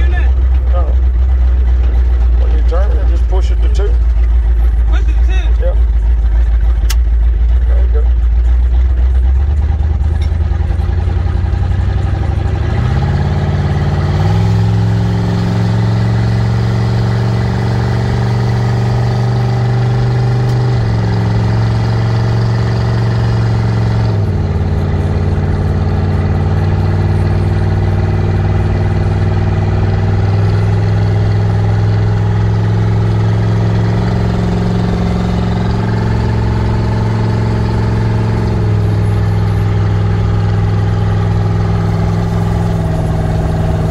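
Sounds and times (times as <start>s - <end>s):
truck engine from inside cab: 0.0s - 43.9s.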